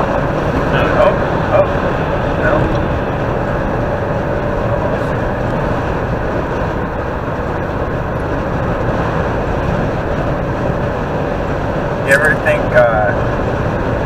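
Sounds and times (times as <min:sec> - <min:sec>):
tyre and wind noise inside car: 0:00.0 - 0:14.0.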